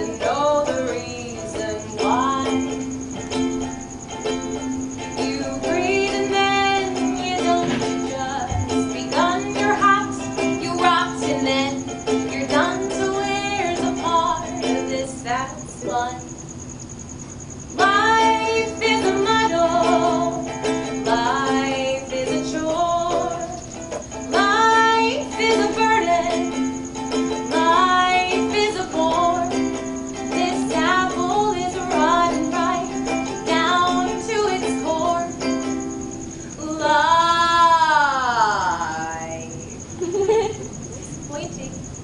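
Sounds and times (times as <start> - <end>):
ukulele strumming: 0.0 - 16.3, 17.7 - 39.6
woman singing: 0.0 - 16.4, 17.8 - 41.7.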